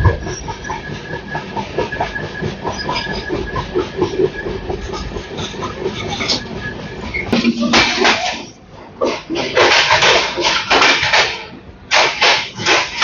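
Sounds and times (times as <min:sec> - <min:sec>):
train wheels rumbling on rail: 0:00.0 - 0:13.0
wheel clatter: 0:00.0 - 0:13.0.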